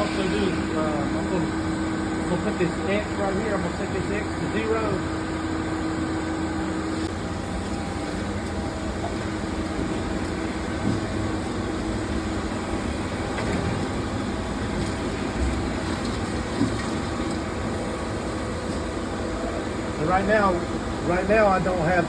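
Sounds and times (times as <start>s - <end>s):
boring mill mechanical hum: 0.0s - 22.0s.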